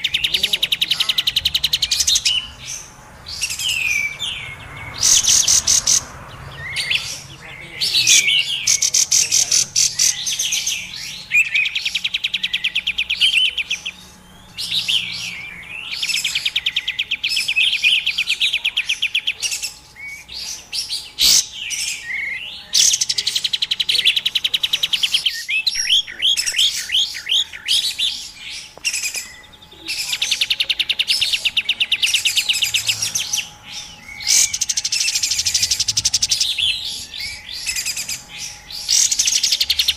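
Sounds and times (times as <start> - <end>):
bird calls: 0.0 - 39.9
bird chattering trills: 0.0 - 39.9
whistled bird notes: 0.0 - 39.9.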